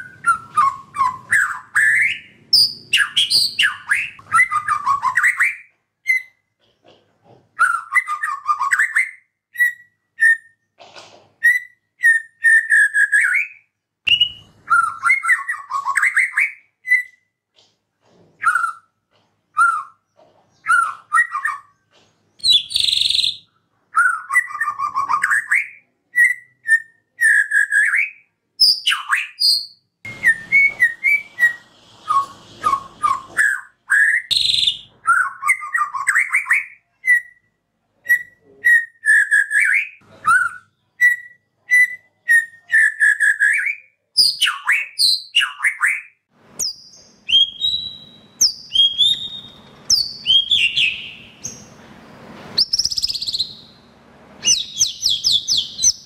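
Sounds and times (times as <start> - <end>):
bird singing whistled phrases: 0.0 - 6.4, 7.6 - 10.6, 11.4 - 17.2, 22.4 - 37.5, 38.1 - 51.7, 52.6 - 53.8, 54.4 - 56.0.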